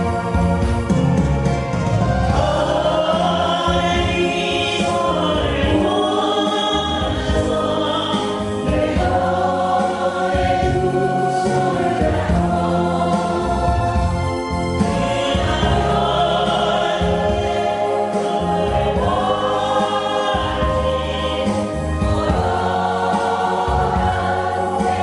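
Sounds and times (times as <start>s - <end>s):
bass and keyboard accompaniment: 0.0s - 25.0s
group singing a pop ballad: 1.8s - 25.0s.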